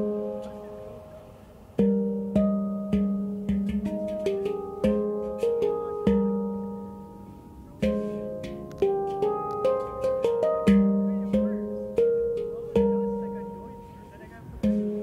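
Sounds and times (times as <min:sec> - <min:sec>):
handpan notes: 0:00.0 - 0:15.0.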